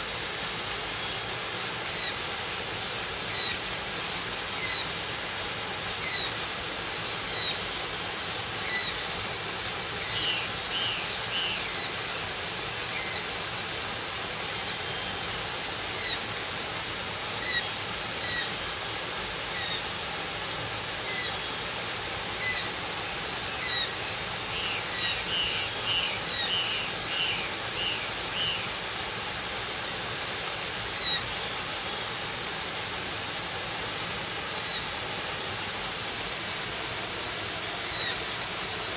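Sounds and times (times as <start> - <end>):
steady rushing hiss: 0.0 - 38.9.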